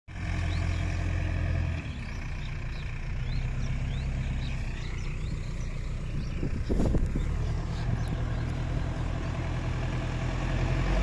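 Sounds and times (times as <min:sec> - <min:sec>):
diesel engine running: 0:00.1 - 0:11.0.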